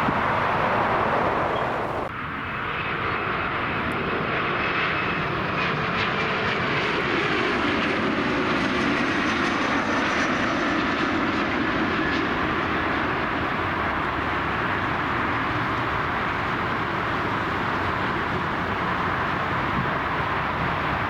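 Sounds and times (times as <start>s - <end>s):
jet airliner engines rumbling: 0.0s - 21.0s
jet engine whine: 0.0s - 21.0s.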